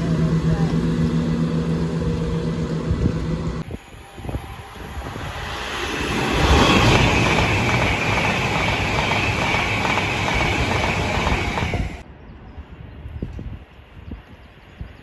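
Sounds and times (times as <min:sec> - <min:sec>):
train passing at speed: 0:00.0 - 0:12.8.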